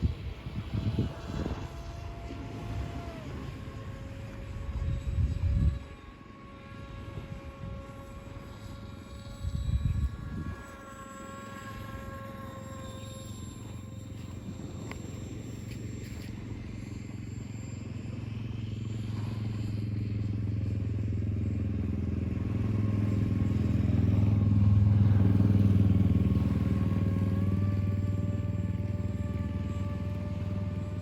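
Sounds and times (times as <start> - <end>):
model plane propeller hum: 0.0 - 31.0
thin motor whine: 0.0 - 31.0.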